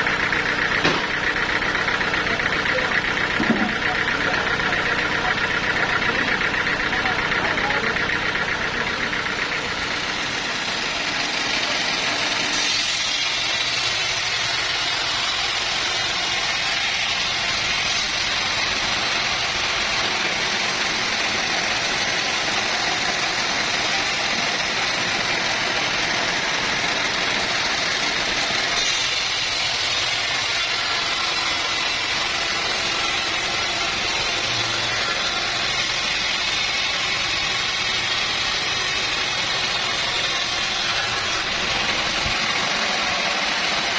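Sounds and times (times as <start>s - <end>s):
sawmill saw cutting log: 0.0s - 43.9s.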